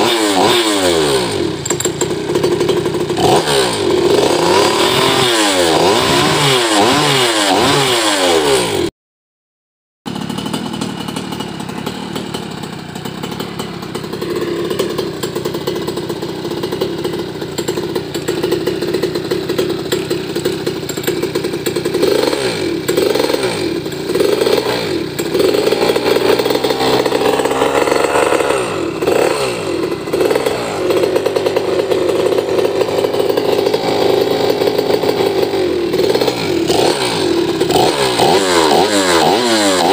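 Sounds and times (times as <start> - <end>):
two-stroke engine revving: 0.0 - 8.9, 10.1 - 39.9.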